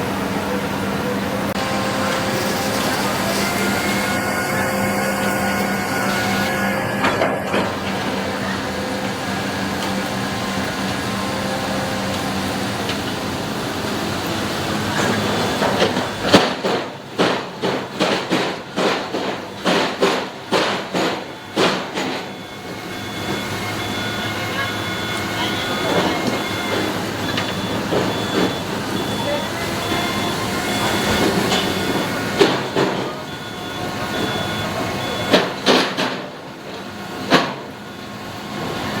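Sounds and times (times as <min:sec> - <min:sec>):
drilling rig running: 0:00.0 - 0:39.0.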